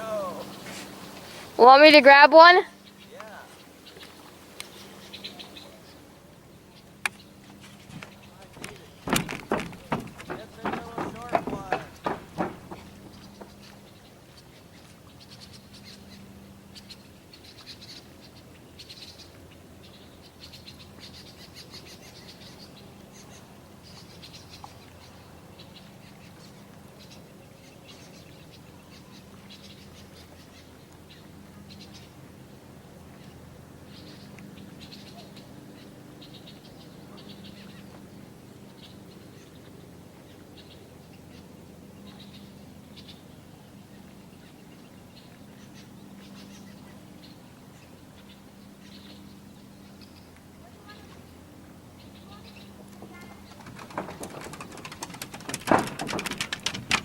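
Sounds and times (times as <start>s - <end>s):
small birds chirping: 0.0s - 32.2s, 33.1s - 57.0s.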